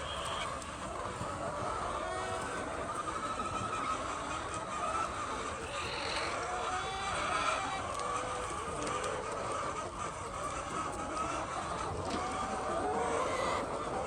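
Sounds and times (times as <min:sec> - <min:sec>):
hens clucking and cackling: 0:00.0 - 0:14.0.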